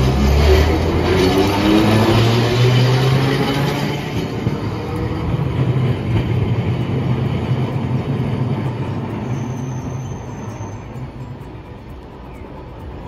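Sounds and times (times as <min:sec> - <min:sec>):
streetcar humming on rails: 0:00.0 - 0:13.0.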